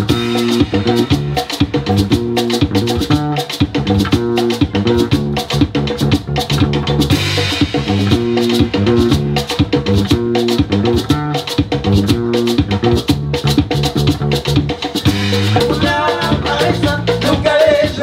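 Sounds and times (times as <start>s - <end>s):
electric bass line: 0.0s - 18.0s
live band playing: 0.0s - 18.0s
percussion strokes: 0.0s - 18.0s.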